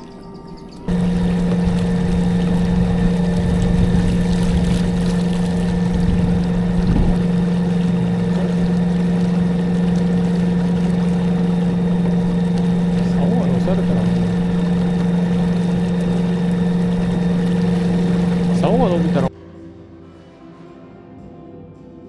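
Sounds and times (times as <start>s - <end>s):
boat motor running: 0.9s - 19.3s.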